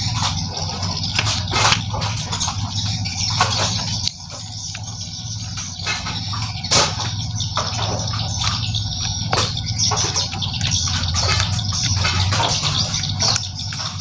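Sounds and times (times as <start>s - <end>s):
metal parts clicking and scraping: 0.0s - 14.0s
steady low hum: 0.0s - 14.0s.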